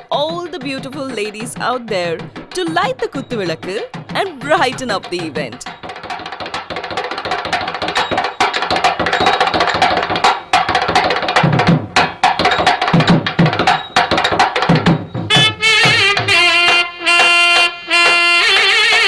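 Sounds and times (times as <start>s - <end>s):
fast rhythmic drum strikes: 0.0s - 17.7s.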